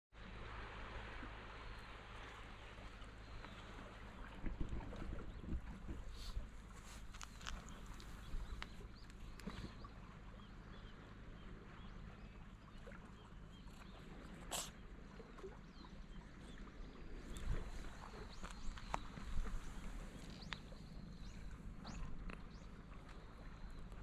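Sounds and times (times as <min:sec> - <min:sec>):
low steady rumble: 0:00.2 - 0:24.0.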